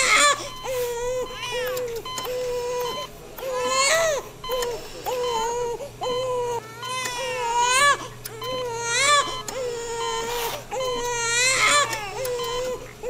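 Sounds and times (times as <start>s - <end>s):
newborn baby crying: 0.0s - 13.0s.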